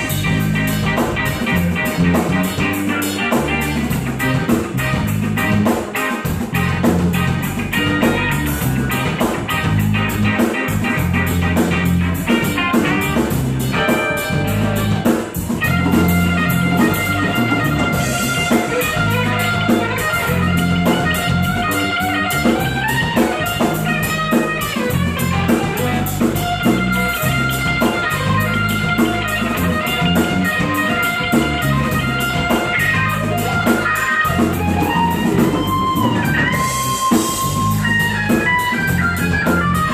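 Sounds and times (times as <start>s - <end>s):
bass guitar: 0.0s - 39.9s
drum kit steady beat: 0.0s - 39.9s
electric guitar lead: 0.0s - 39.9s.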